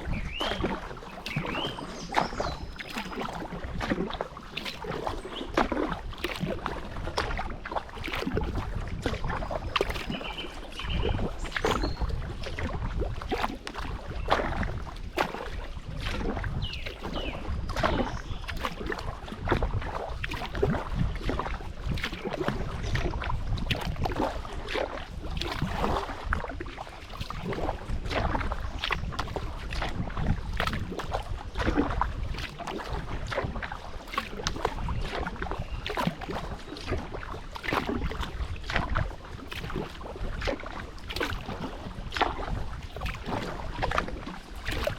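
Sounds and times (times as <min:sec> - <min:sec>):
paddle splashing in water: 0:00.0 - 0:44.9
wind rumbling on microphone: 0:00.0 - 0:44.9.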